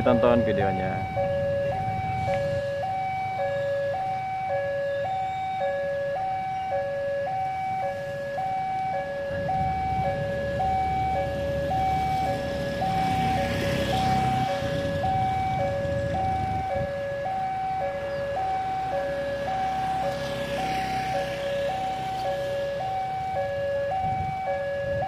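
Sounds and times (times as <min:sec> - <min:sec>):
two-tone crossing alarm chime: 0:00.0 - 0:25.0.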